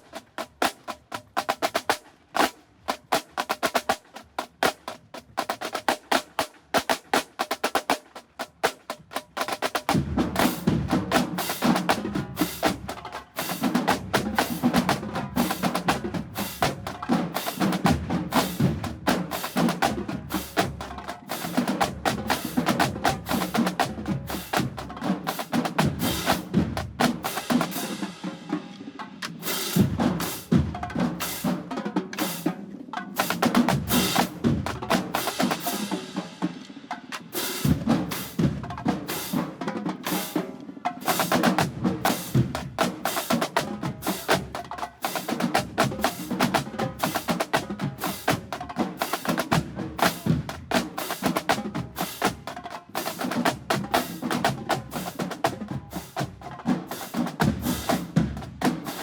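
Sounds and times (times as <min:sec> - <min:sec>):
marching drumline playing: 0:00.0 - 0:59.0.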